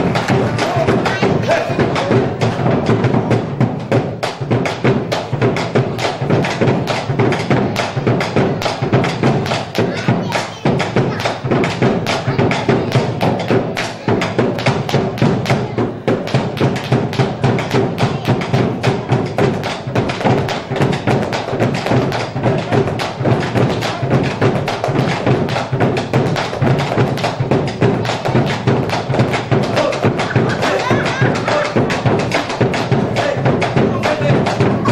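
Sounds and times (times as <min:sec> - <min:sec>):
folk music with percussive beat: 0:00.0 - 0:34.9.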